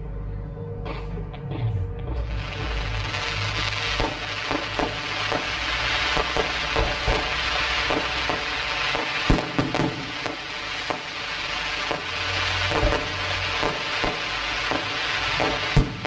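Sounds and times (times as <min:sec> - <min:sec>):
fireworks bangs: 0:00.9 - 0:16.0
fireworks crackling and popping: 0:02.0 - 0:16.0.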